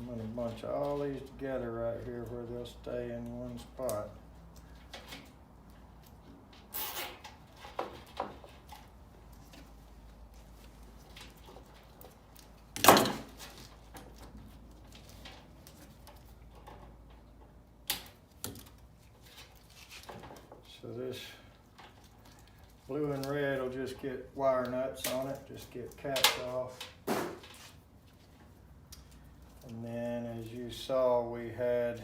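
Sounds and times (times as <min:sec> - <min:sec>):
rustling and clicking of wiring: 0:00.0 - 0:31.0.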